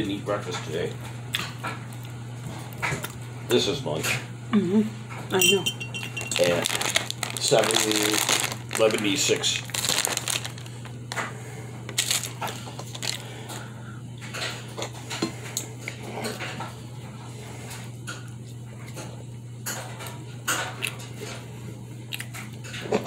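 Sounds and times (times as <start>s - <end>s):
steady low hum: 0.0s - 22.8s
chewing crunchy food: 0.9s - 3.2s, 6.1s - 23.0s.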